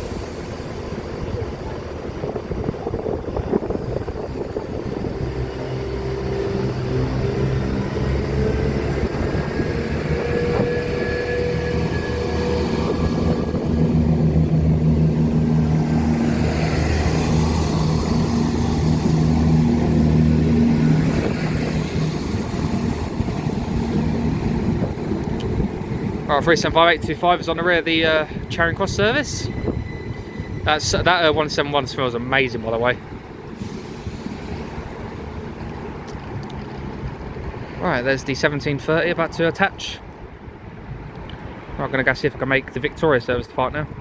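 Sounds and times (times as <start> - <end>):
train diesel engines drone: 0.0 - 43.3.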